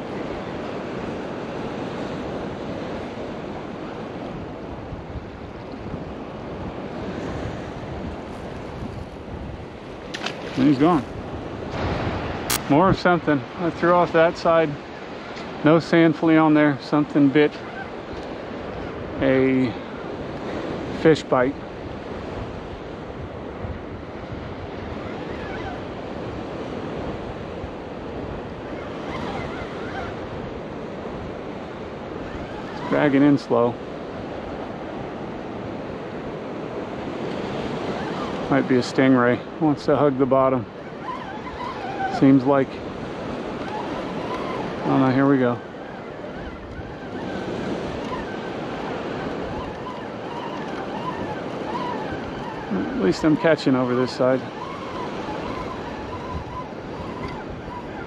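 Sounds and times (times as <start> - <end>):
wind noise on microphone: 0.0 - 15.9, 16.8 - 58.0
ocean surf washing: 0.0 - 58.0.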